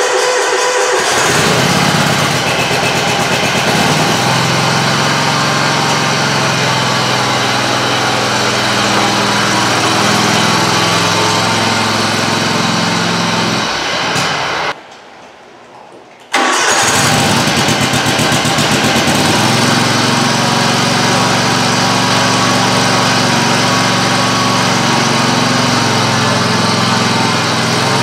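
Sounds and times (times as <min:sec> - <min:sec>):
mower engine running: 0:00.0 - 0:14.8, 0:16.4 - 0:28.0.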